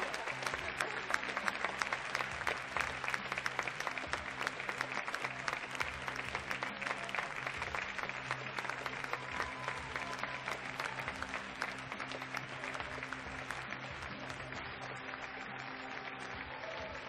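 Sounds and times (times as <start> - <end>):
audience applauding: 0.0 - 17.0
music playing low: 0.0 - 17.0.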